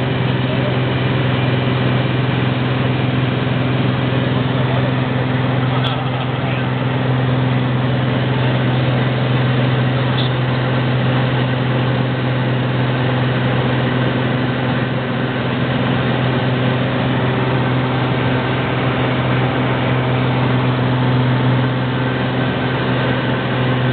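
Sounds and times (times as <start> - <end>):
propeller plane engine drone: 0.0 - 23.9.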